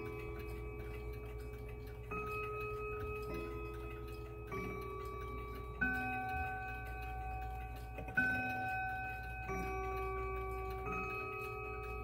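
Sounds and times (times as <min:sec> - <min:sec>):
clock ticking: 0:00.0 - 0:12.0
mantel clock chiming: 0:00.0 - 0:12.0.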